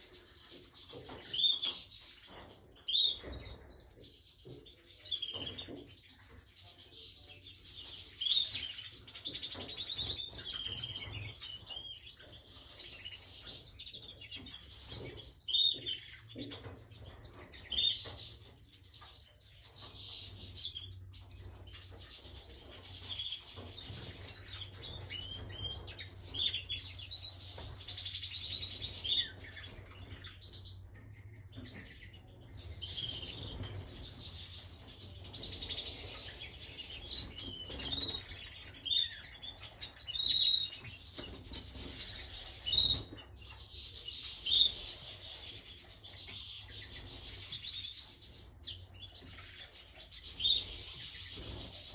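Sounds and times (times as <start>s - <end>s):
canary singing chirps and trills: 0.0s - 51.9s.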